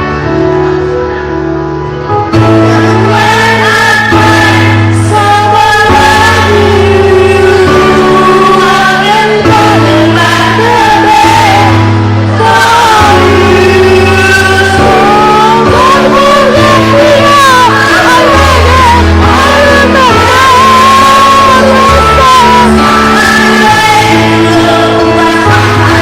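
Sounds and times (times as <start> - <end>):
backing track bass and chords: 0.0 - 26.0
person singing: 2.3 - 26.0.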